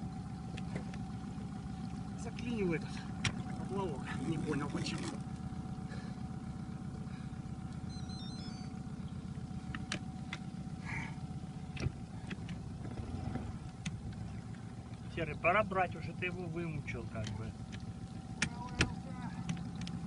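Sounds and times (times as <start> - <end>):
motor running at low revs: 0.0 - 20.0.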